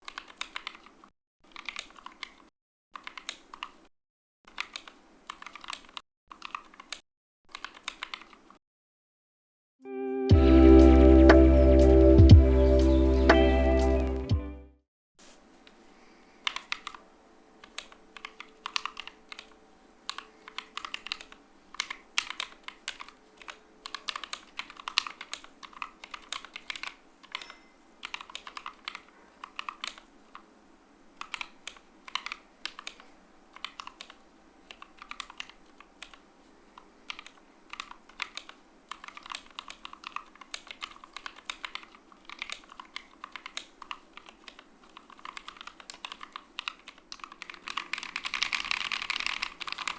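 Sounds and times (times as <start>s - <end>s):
mechanical keyboard typing: 0.0s - 3.9s, 4.5s - 8.6s, 16.4s - 30.5s, 31.1s - 49.9s.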